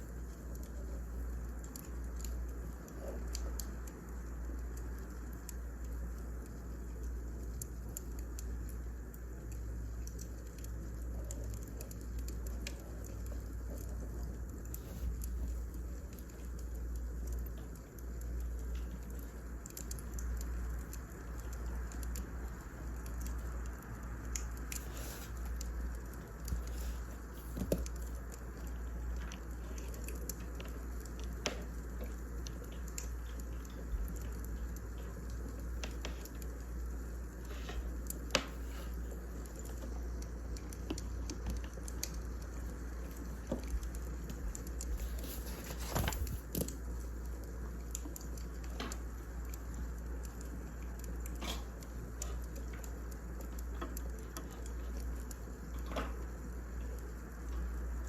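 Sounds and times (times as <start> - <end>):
fire crackling and popping: 0.0 - 58.0
fire low rumble: 0.1 - 58.0.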